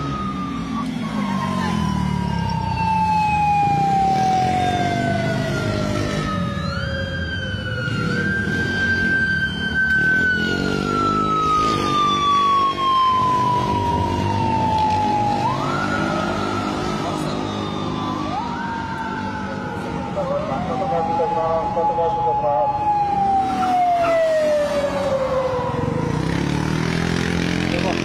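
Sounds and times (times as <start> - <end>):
passing traffic engines: 0.0 - 28.0
police siren wailing: 0.0 - 28.0.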